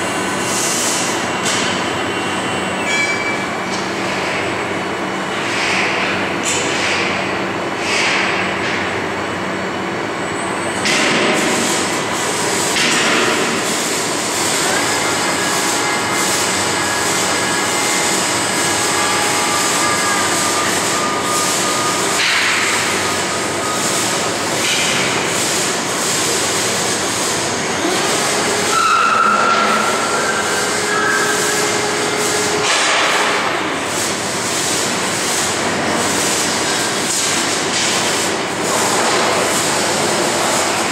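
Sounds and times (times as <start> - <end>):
industrial hiss and hum: 0.0 - 40.9.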